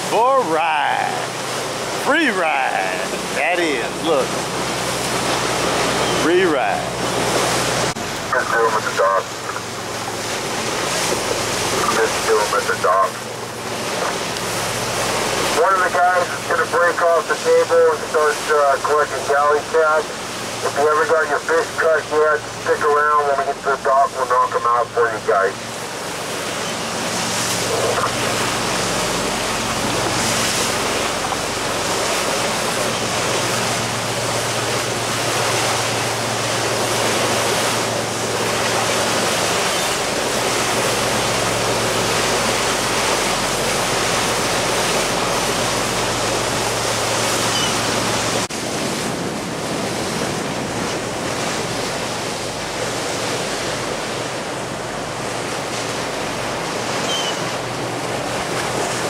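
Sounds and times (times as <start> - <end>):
boat engine droning: 0.0 - 59.0
water rushing past boat: 0.0 - 59.0.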